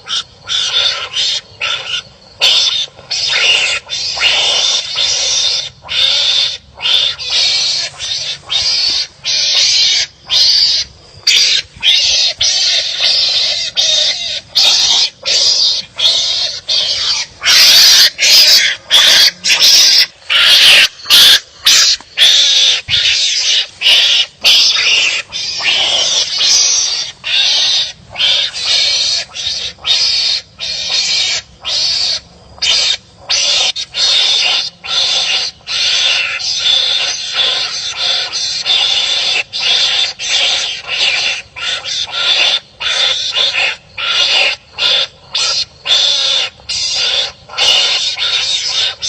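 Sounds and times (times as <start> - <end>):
animals barking: 0.0 - 49.0.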